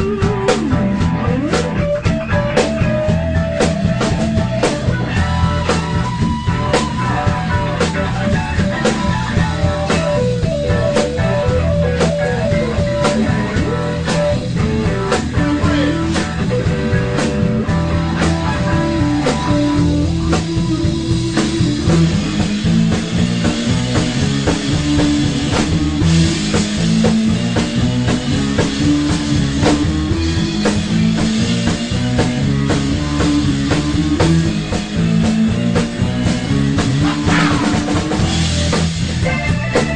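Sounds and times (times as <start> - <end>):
drum kit beat: 0.0 - 39.9
electric guitar: 0.0 - 39.9
rock band music: 0.0 - 39.9.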